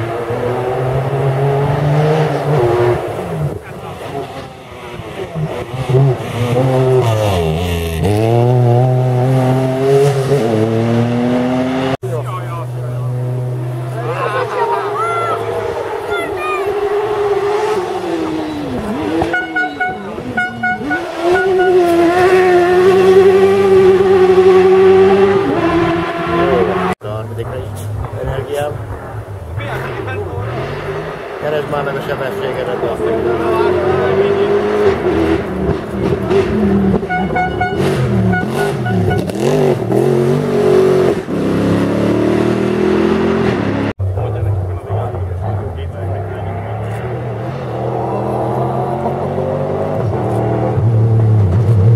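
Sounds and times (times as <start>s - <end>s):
buggy engine revving: 0.0s - 51.9s.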